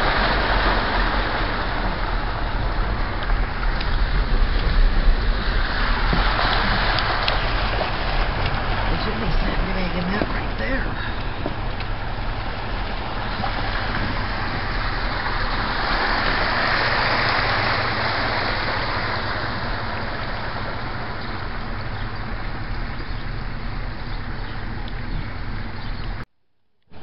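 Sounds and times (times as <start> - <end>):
tyres swishing through water: 0.0 - 26.2
engine and road hum: 0.0 - 27.0.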